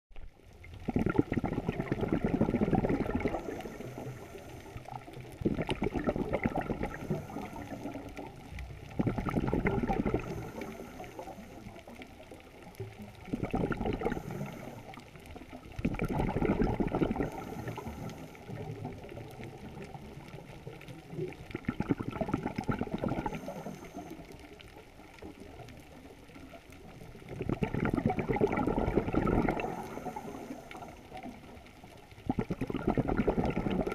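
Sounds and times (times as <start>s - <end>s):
exhaled bubbles gurgling underwater: 0.1s - 33.9s.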